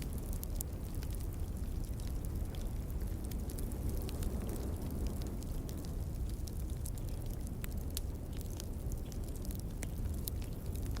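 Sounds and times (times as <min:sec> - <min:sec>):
low rumble of wind: 0:00.0 - 0:11.0
wood fire crackling and popping: 0:00.0 - 0:11.0.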